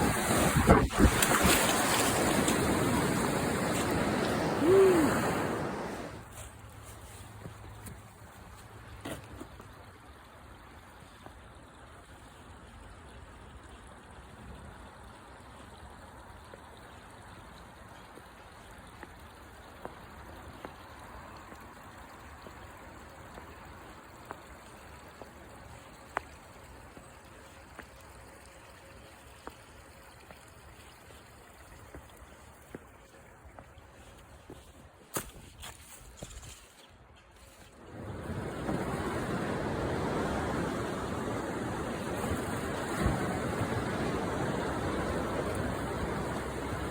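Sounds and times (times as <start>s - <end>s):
stream water running: 0.0s - 46.9s.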